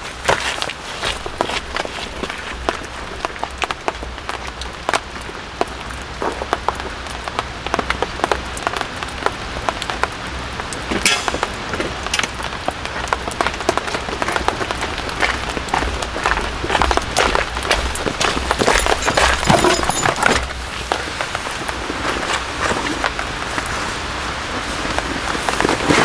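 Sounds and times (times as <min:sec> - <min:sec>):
rain falling on a tent: 0:00.0 - 0:19.3, 0:20.4 - 0:26.0.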